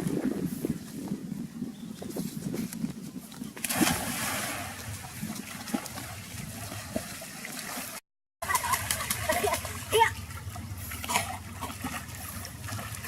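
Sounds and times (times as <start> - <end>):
water splashing and trickling: 2.0 - 13.0.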